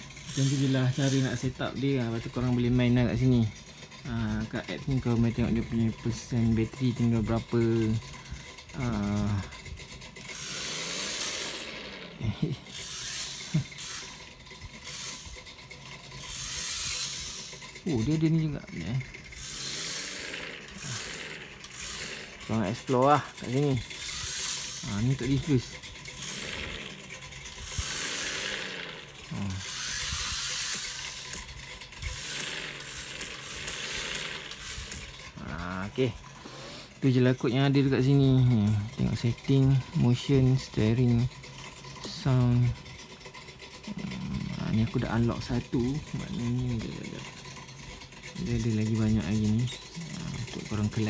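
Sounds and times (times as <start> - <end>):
toy car motor whirring: 0.0 - 51.0.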